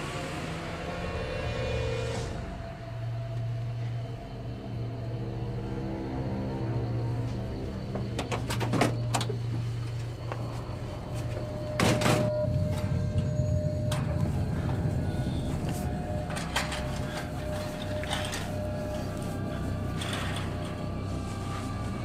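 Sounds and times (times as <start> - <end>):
low steady drone: 0.0 - 22.0.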